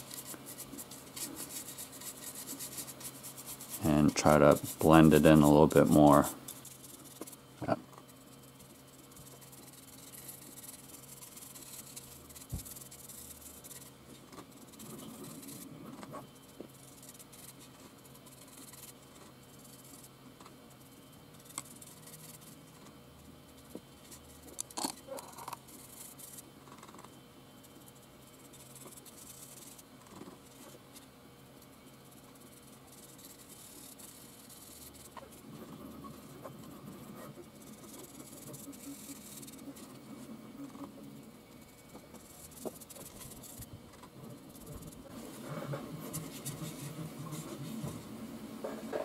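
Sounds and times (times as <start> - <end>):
brush scratching on plastic: 0.0 - 48.2.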